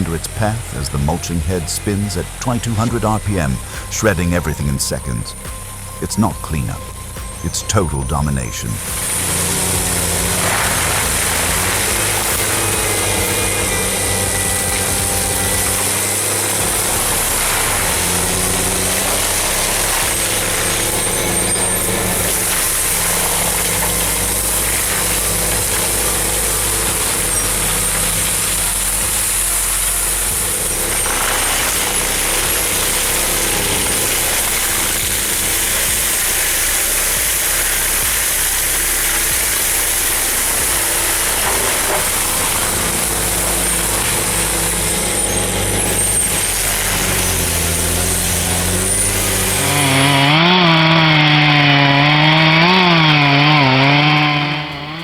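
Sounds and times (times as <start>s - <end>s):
continuous hiss: 0.0s - 50.2s
diesel engine running: 0.0s - 55.0s.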